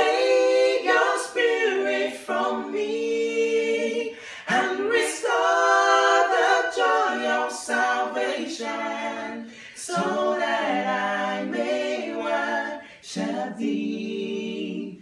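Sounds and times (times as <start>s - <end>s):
men singing a cappella harmony: 0.0s - 15.0s.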